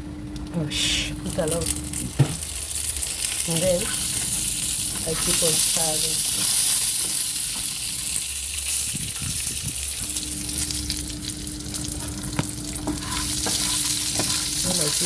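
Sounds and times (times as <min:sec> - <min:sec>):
snack sizzling in oil: 0:00.0 - 0:15.0.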